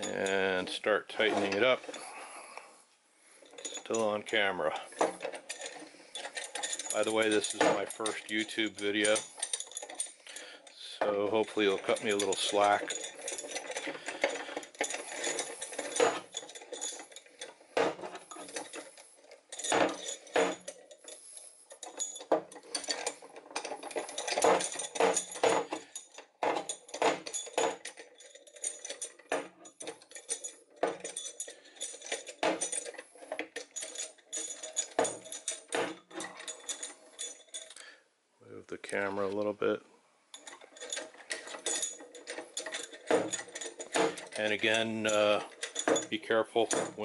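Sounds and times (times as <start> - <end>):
metal clinks and clanks: 0.0 - 2.5, 3.3 - 38.0, 39.6 - 47.0.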